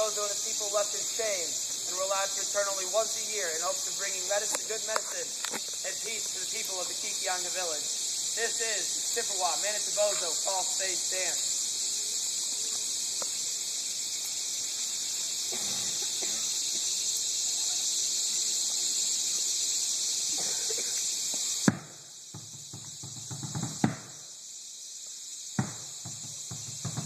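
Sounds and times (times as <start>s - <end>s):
high-pitched hiss: 0.0s - 27.0s.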